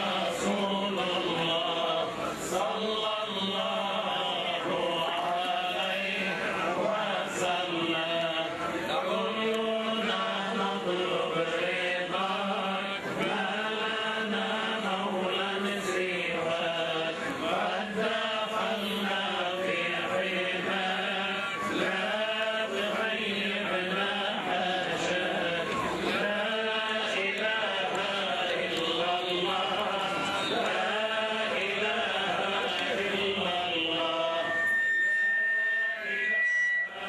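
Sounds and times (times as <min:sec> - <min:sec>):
men chanting a prayer: 0:00.0 - 0:34.6.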